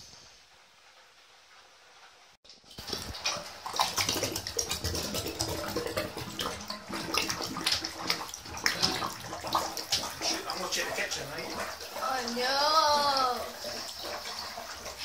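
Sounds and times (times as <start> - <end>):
water gurgling at a plughole: 2.8 - 15.0.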